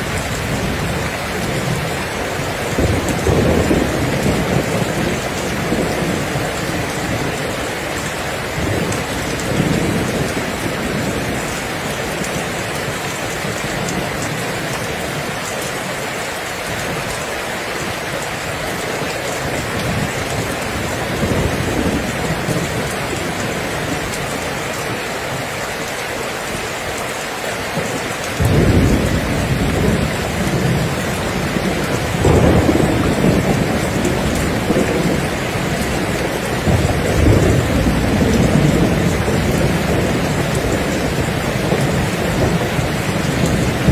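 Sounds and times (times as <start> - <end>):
thunder rumbling: 0.0 - 16.0, 18.5 - 25.0, 27.8 - 43.9
rain falling: 0.0 - 43.9.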